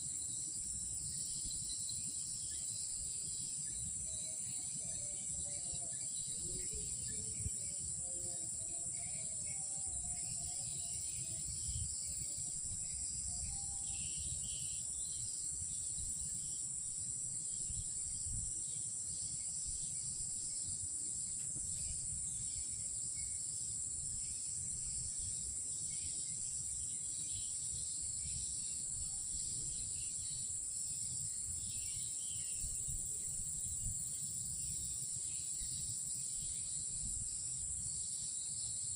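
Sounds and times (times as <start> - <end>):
crickets chirping drone: 0.0 - 38.9.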